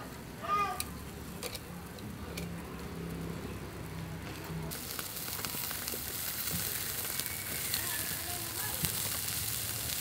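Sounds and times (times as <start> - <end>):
meat sizzling on grill: 1.0 - 10.0.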